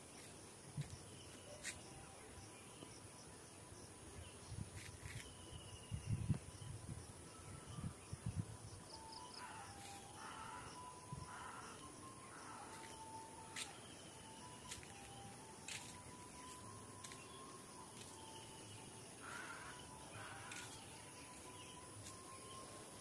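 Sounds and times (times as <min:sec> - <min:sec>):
high-pitched insect drone: 0:03.6 - 0:23.0.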